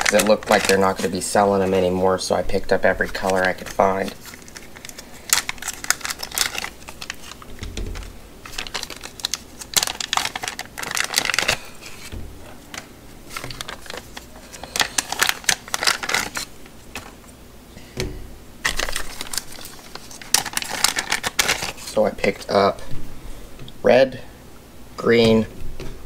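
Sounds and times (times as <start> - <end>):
plastic bags rustling: 0.0 - 17.4, 18.6 - 23.6.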